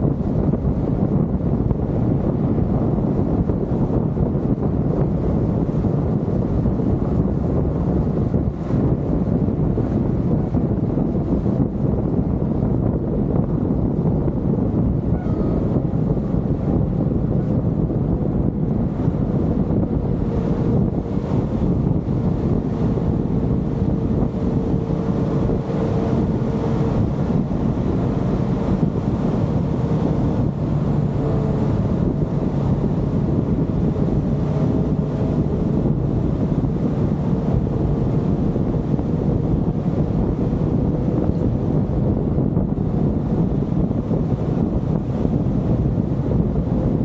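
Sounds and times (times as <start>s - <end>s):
car driving on road: 0.0s - 47.0s.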